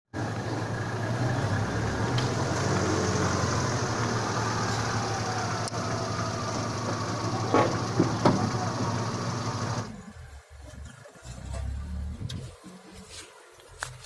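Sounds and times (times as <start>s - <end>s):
engine humming: 0.1s - 14.0s.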